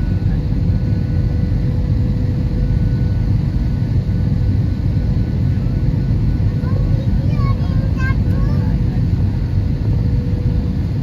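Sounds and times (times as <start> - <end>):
jet engines and airflow rumble: 0.0 - 11.0.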